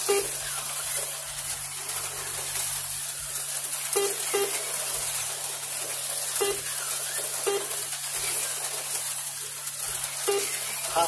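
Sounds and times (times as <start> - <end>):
slot cars hissing and humming: 0.0 - 11.0.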